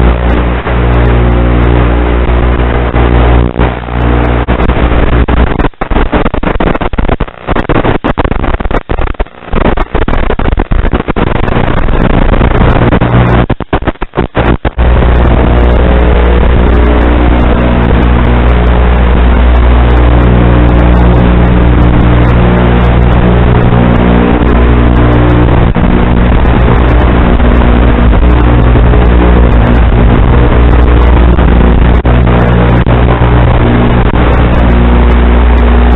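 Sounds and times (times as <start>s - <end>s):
loud static hiss: 0.0s - 35.9s
steady buzzing hum: 0.0s - 35.9s.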